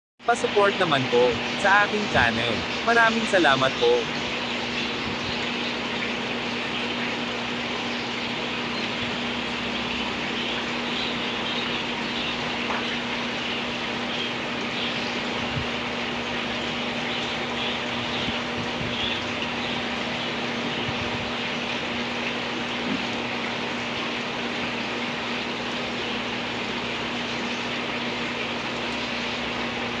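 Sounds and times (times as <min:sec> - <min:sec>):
constant hum: 0:00.2 - 0:30.0
water running in tanks: 0:00.2 - 0:30.0
air bubbles fizzing: 0:00.6 - 0:30.0.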